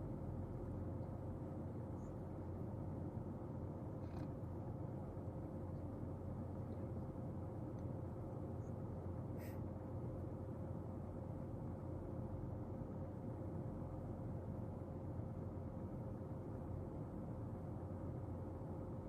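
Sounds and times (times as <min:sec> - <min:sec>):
faint constant tone: 0:00.0 - 0:19.0
low room hum: 0:00.0 - 0:19.0.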